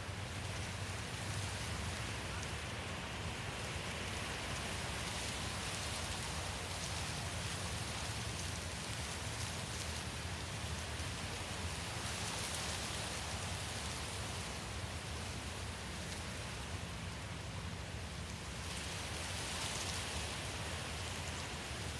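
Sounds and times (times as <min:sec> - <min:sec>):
wind: 0:00.0 - 0:21.9.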